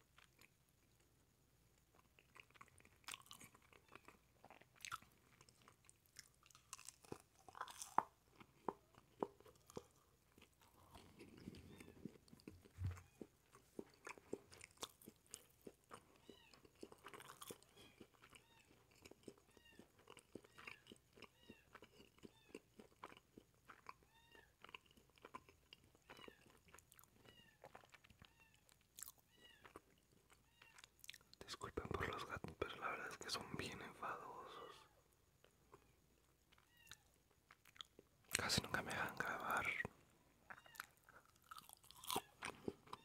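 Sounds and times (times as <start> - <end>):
chewing and crunching food: 0.0 - 43.0.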